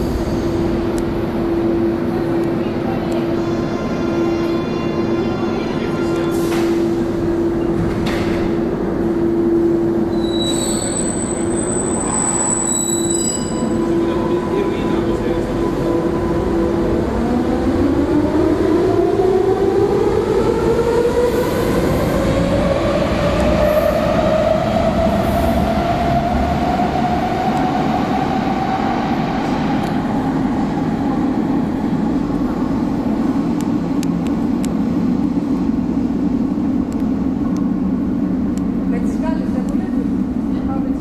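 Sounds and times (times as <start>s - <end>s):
train rolling rumble: 0.0s - 41.0s.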